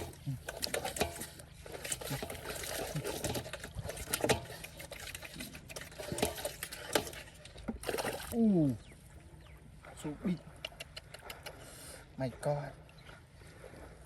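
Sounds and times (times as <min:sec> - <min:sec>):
muddy water splashing and sloshing: 0:00.0 - 0:14.0.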